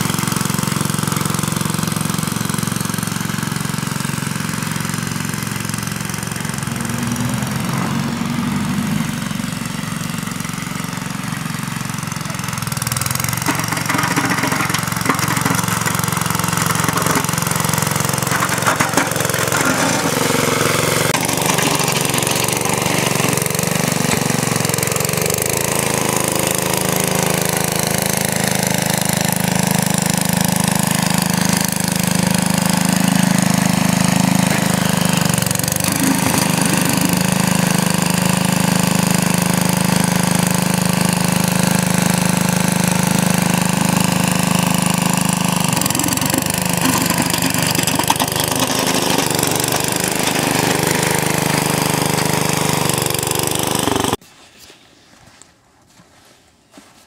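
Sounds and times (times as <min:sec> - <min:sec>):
garden tractor engine running: 0:00.0 - 0:54.2.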